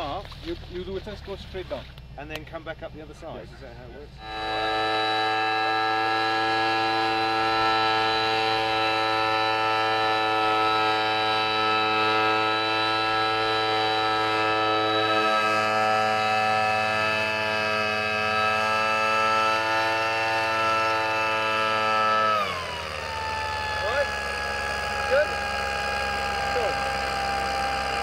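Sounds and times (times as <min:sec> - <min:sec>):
small petrol engine at high revs: 0:04.2 - 0:28.0.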